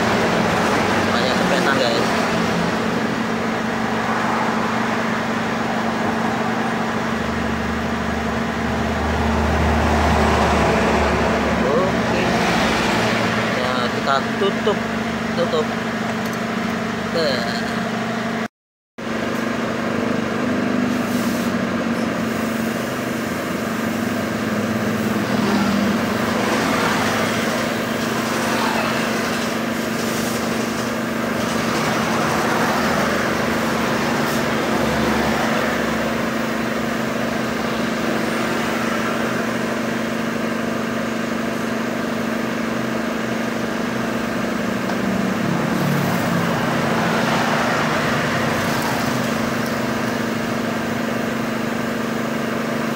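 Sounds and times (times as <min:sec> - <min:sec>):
air compressor motor hum: 0:00.0 - 0:52.9.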